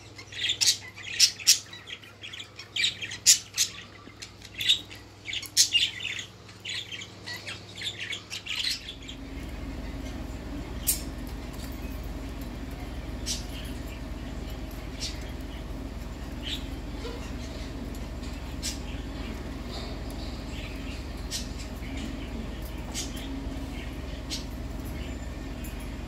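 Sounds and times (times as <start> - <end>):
parakeet squawks and chirps: 0.0 - 11.6, 12.2 - 25.6
steady low hum: 0.0 - 26.0.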